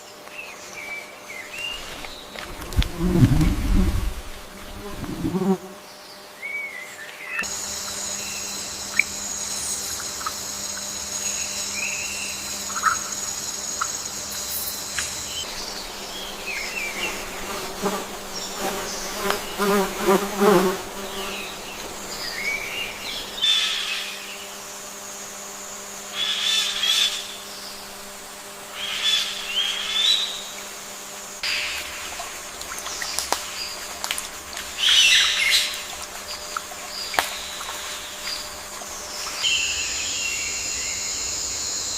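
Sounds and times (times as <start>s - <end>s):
insect chirps: 1.5s - 5.7s, 7.4s - 41.9s
high insect trill: 7.4s - 41.9s.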